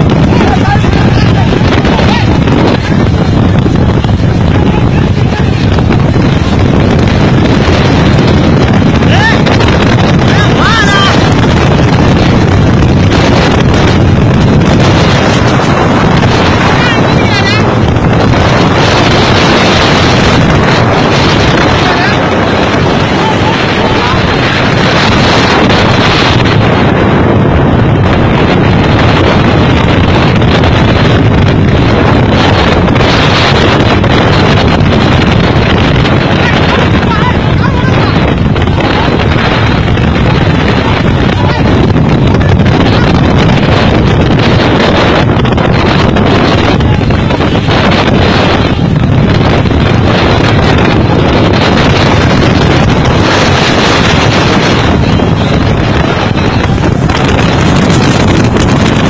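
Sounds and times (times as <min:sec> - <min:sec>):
heavy wind-driven rain: 0:00.0 - 0:59.0
storm wind on microphone: 0:00.0 - 0:59.0.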